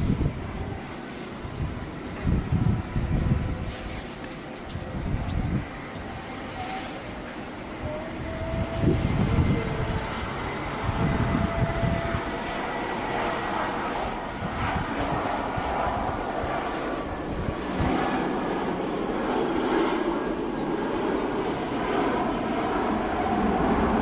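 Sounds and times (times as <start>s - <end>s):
high-pitched engine whine: 0.0s - 24.0s
jet engine rushing: 0.0s - 24.0s.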